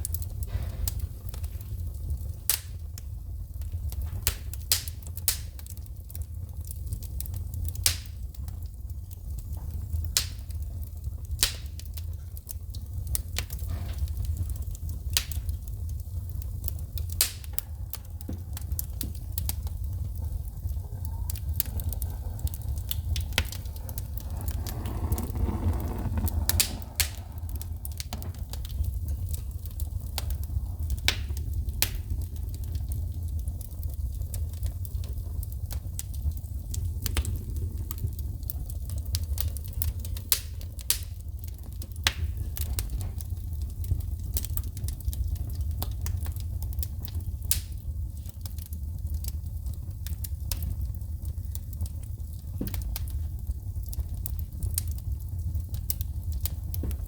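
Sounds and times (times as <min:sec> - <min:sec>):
fire crackles and pops: 0:00.0 - 0:57.0
fireplace flames rumbling: 0:00.0 - 0:57.0.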